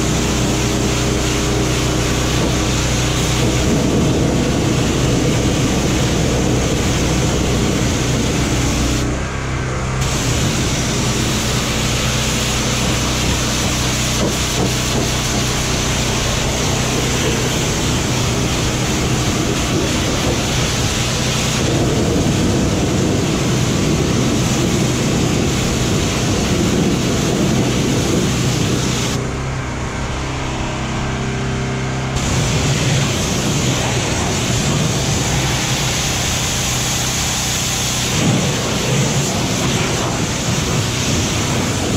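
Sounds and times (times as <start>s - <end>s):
pressure washer jet hissing: 0.0s - 29.5s, 32.1s - 41.9s
steady low hum: 0.0s - 41.9s.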